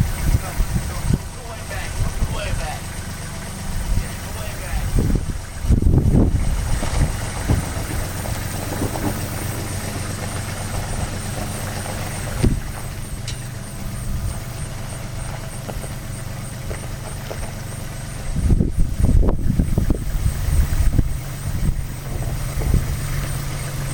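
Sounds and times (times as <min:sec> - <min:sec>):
vehicle engine running at low revs: 0:00.0 - 0:23.9.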